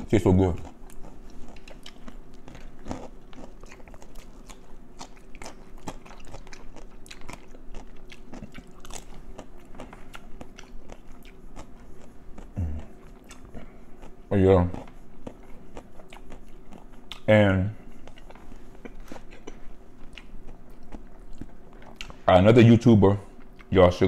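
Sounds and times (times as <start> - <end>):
chewing crunchy fried chicken: 0.0 - 24.0.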